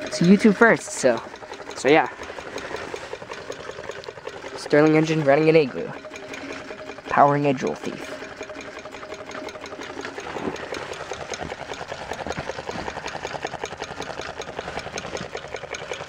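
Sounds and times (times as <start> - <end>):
stirling engine ticking clatter: 0.0 - 16.0.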